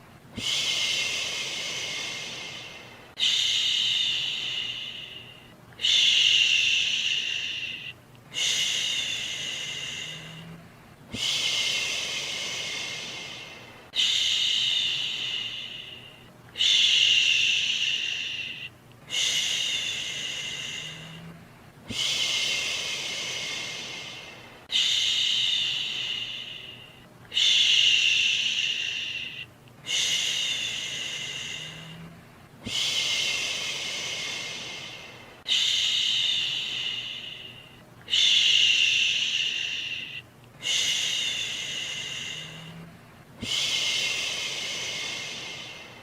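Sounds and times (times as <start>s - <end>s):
person shushing: 0.4s - 46.0s.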